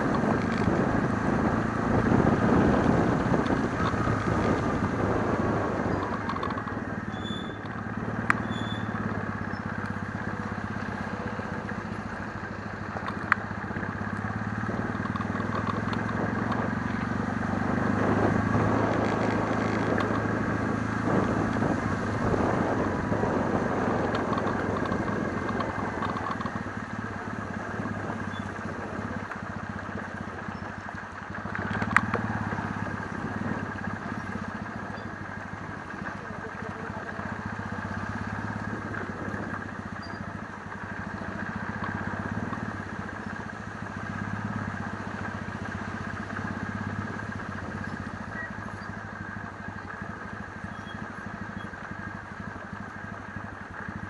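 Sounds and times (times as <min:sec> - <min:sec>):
motorcycle engine at low revs: 0:00.0 - 0:54.0.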